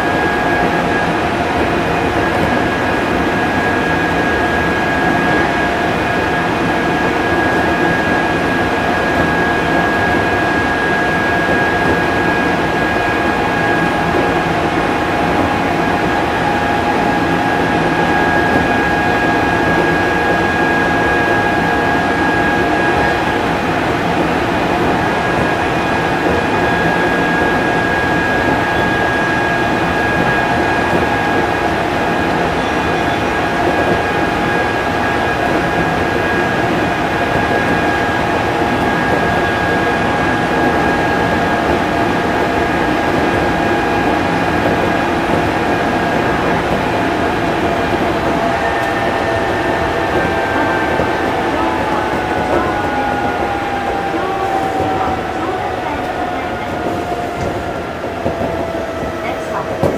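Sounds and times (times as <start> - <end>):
train running gear rumble: 0.0 - 59.9.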